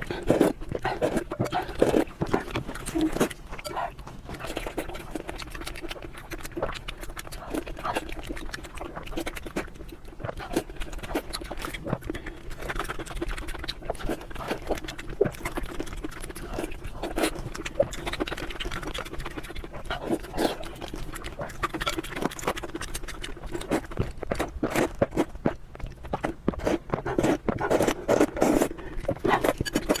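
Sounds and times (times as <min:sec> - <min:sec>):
chewing and mouth smacks: 0:00.0 - 0:30.0.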